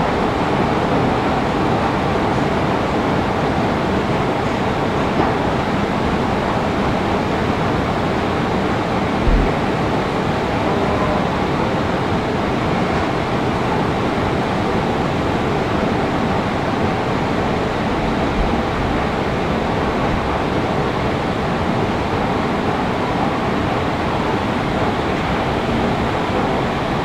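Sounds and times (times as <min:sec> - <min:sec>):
metro station rushing noise: 0:00.0 - 0:27.0.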